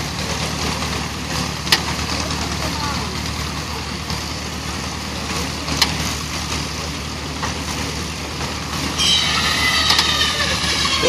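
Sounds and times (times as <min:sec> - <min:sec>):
baler clatter and rumble: 0:00.0 - 0:11.0.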